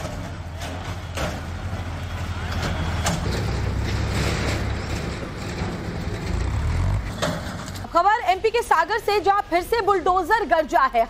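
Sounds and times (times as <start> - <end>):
diesel engines rumbling under load: 0.0 - 11.0.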